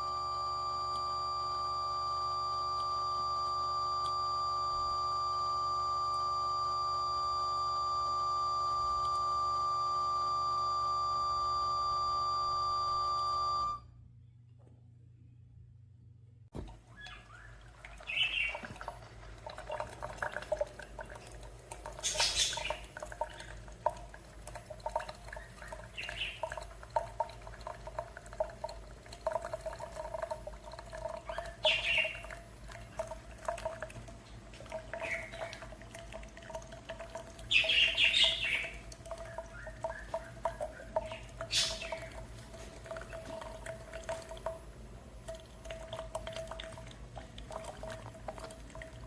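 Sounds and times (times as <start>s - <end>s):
coffee maker hum: 0.0s - 49.0s.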